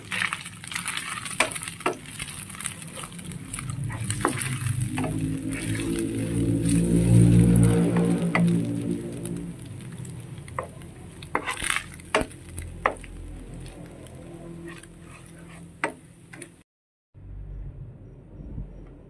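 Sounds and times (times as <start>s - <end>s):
faint sizzle: 0.0s - 16.6s
spatula scraping and knocking in pan: 0.0s - 16.6s
low droning hum: 2.3s - 16.6s, 17.2s - 19.0s.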